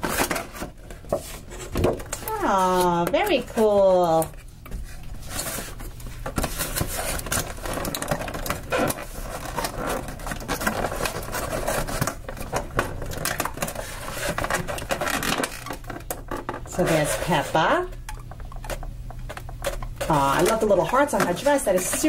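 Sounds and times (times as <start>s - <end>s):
plastic and cardboard rustling: 0.0s - 22.0s.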